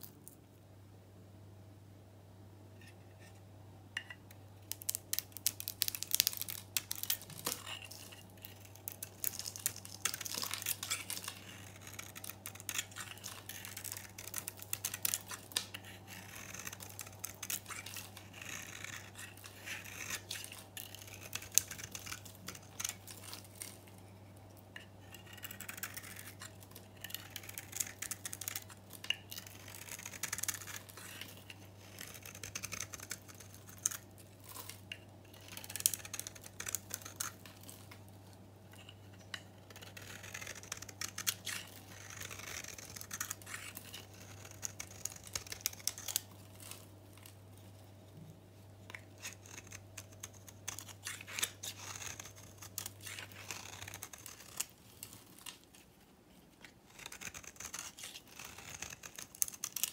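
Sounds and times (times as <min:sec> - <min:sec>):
knife scraping hard soap: 0:04.0 - 0:24.2, 0:24.8 - 0:38.0, 0:38.7 - 0:46.8, 0:48.9 - 0:55.2, 0:56.9 - 0:59.9.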